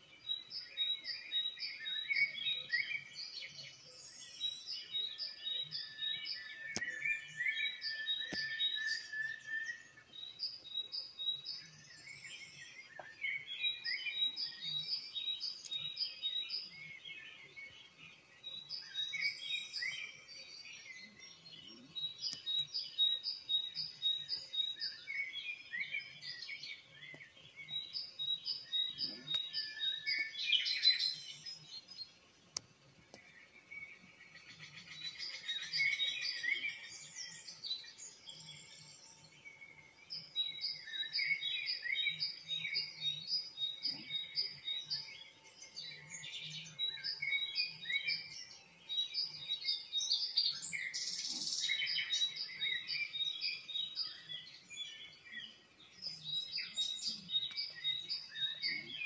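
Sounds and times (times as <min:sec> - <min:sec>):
songbird chirping and trilling: 0:00.0 - 0:59.0.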